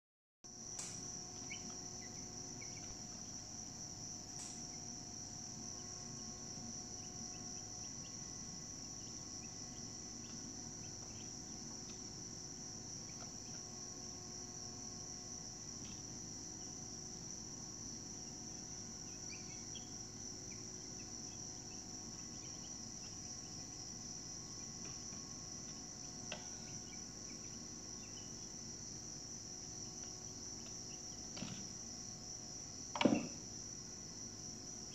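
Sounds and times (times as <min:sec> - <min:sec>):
insects chirping: 0:00.5 - 0:34.9.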